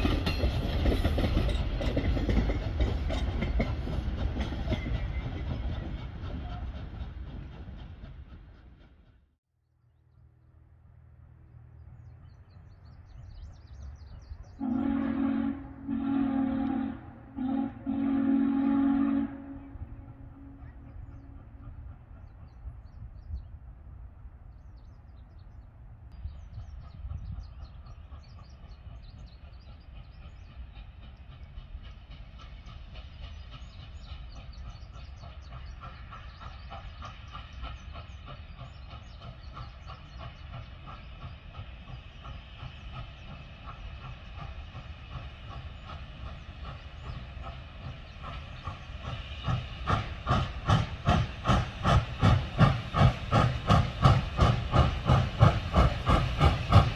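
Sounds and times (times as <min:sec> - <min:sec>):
steam locomotive exhaust chuffs: 0:00.0 - 0:09.2, 0:12.9 - 0:23.5, 0:26.1 - 0:56.9
steam locomotive rumble: 0:00.0 - 0:09.4, 0:10.1 - 0:56.9.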